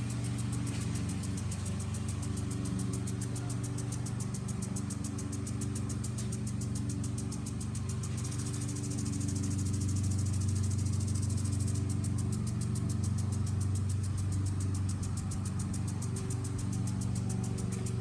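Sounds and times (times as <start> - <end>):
lawn mower engine running: 0.0 - 18.0
lawn sprinkler ticking: 0.0 - 18.0.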